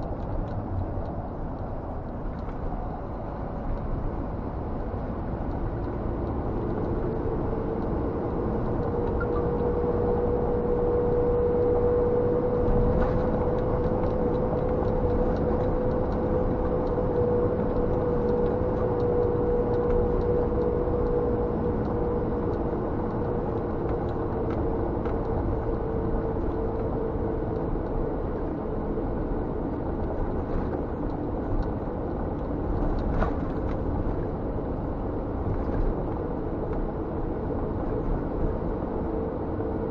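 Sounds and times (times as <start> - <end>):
road noise: 0.0 - 39.9
steady droning tone: 0.0 - 39.9.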